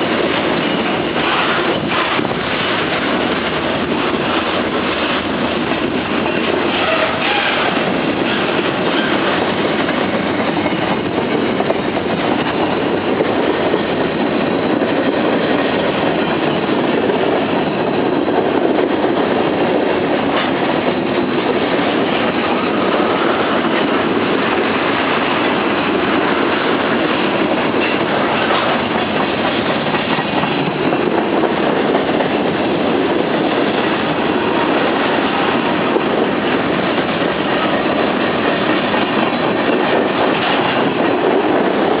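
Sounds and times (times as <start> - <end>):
freight train cars rolling: 0.0 - 42.0.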